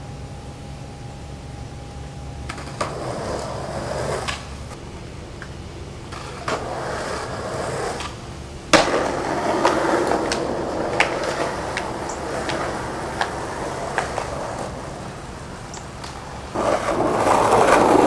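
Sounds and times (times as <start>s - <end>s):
skateboard wheels rolling on concrete: 2.0s - 18.0s
skateboard clacks: 2.4s - 4.6s, 5.4s - 18.0s.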